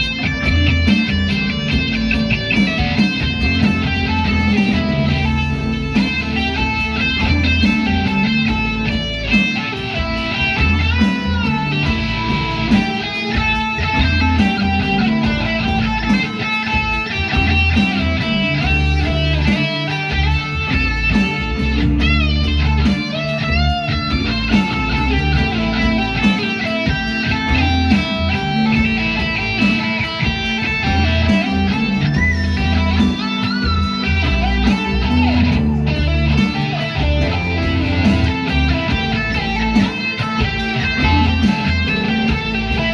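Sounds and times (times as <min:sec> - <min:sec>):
guitar: 0:00.0 - 0:42.9
steady bass line: 0:00.0 - 0:42.9.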